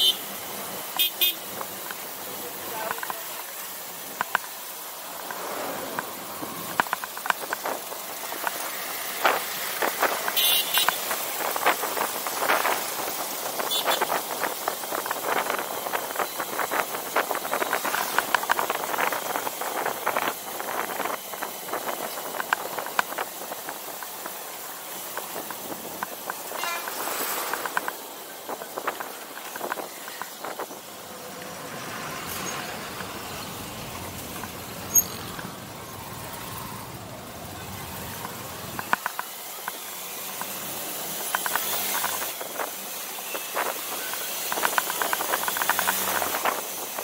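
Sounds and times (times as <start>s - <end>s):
motorbike road noise hiss: 0.0s - 47.0s.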